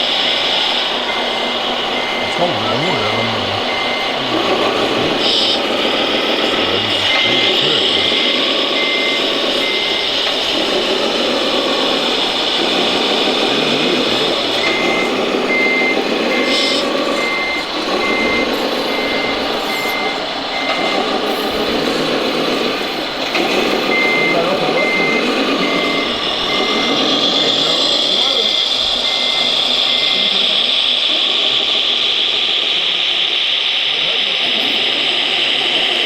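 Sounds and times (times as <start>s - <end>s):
reversing alarm beeping: 0.0s - 36.0s.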